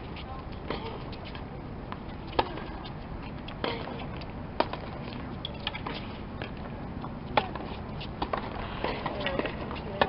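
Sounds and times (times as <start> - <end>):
tennis balls struck by rackets: 0.5 - 10.0.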